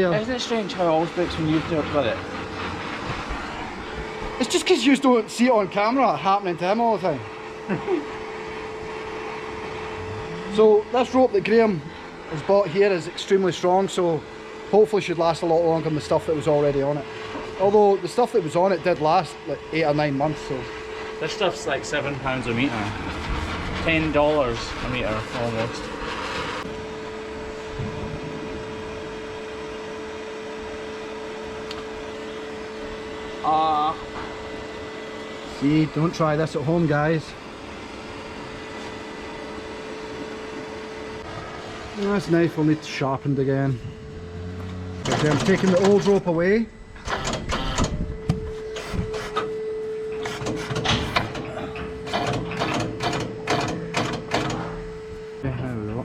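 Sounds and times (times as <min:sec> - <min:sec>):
machine hum: 0:00.0 - 0:56.0.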